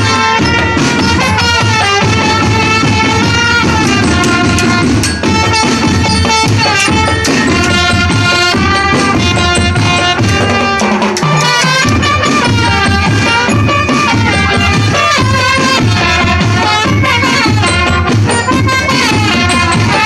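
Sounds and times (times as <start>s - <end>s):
marching band music: 0.0s - 20.0s.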